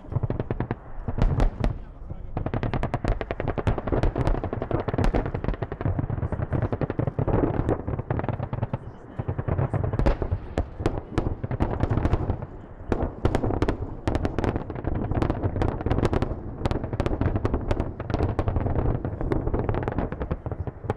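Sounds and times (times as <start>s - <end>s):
low rumble of detonations: 0.0s - 20.9s.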